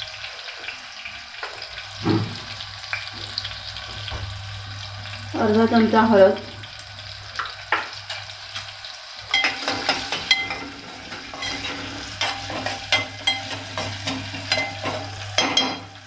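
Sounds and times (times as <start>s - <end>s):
spices sizzling in oil: 0.0s - 16.0s.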